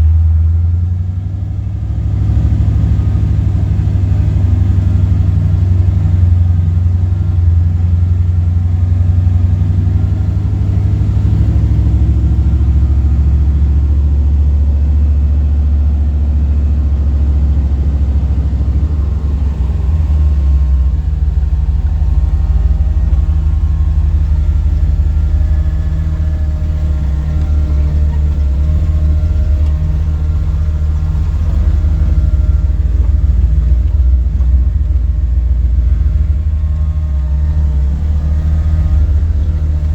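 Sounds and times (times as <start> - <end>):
car engine droning: 0.0 - 39.9
road rumble: 0.0 - 39.9.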